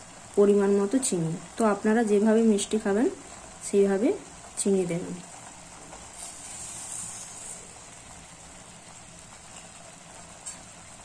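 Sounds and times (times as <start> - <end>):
food sizzling in a wok: 0.0 - 11.0
sugar pouring hiss: 0.0 - 11.0.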